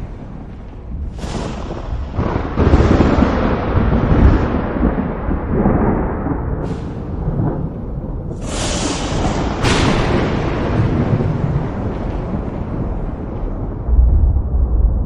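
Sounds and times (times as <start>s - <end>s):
rolling thunder rumble: 0.0s - 15.0s
thunder crack: 0.0s - 15.0s.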